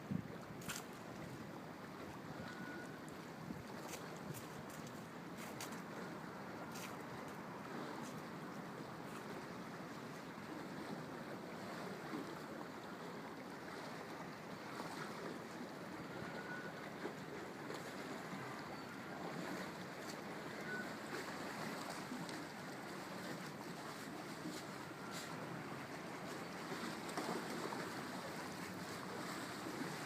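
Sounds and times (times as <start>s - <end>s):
river water lapping: 0.0s - 30.0s.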